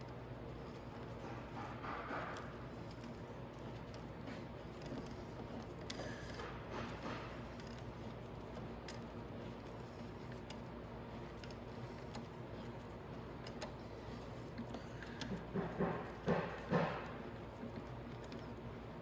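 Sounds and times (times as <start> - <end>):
low workshop hum: 0.0 - 19.0.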